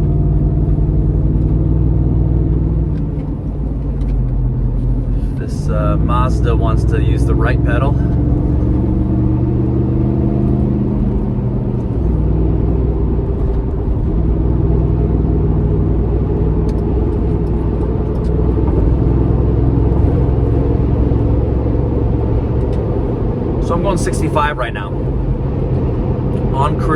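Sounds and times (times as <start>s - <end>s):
car engine rumble: 0.0s - 26.9s
road noise: 0.0s - 26.9s.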